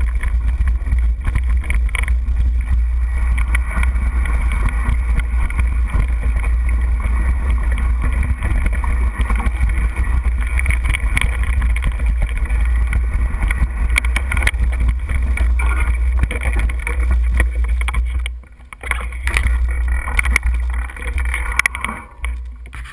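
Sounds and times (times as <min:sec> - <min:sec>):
bike rattling over stones: 0:00.0 - 0:22.9
wind and vibration rumble: 0:00.0 - 0:22.9.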